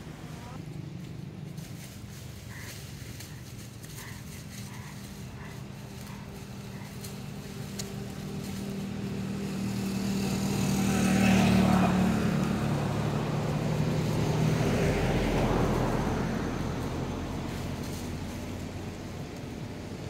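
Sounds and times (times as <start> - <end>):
motor vehicles passing: 0.0 - 20.0.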